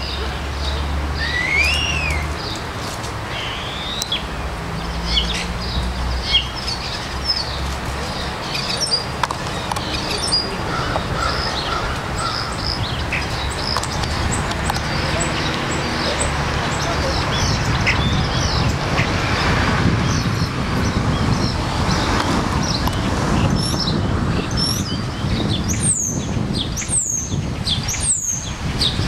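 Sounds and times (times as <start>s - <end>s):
birds chirping and whistling: 0.0s - 2.7s, 3.3s - 29.0s.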